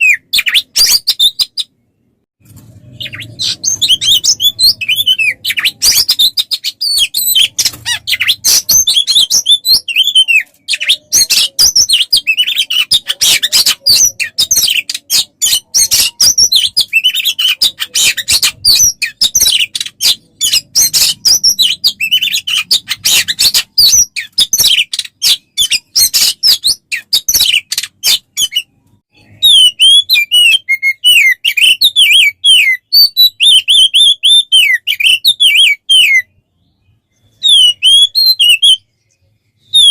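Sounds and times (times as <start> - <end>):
songbird chirps and trills: 0.0 - 39.9
down-slurred whistles: 3.0 - 38.9.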